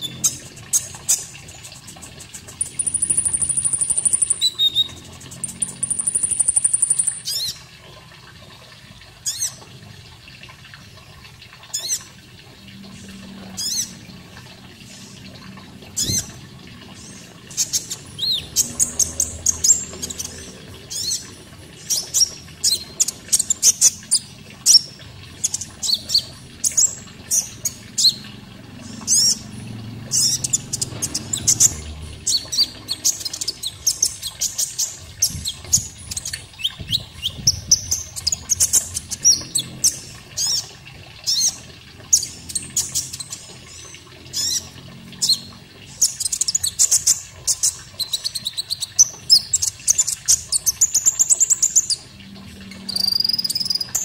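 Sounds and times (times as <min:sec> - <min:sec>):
faint running water: 0:00.0 - 0:54.0.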